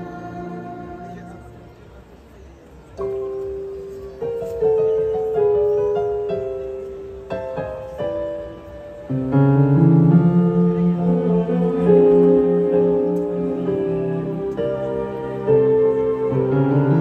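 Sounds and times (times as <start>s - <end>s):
orchestra playing sustained chords: 0.0s - 2.3s, 3.0s - 17.0s.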